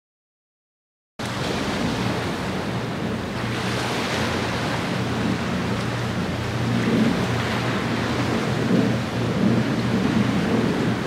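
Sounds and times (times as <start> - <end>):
sea noise: 1.2 - 11.0
wind: 1.2 - 11.0.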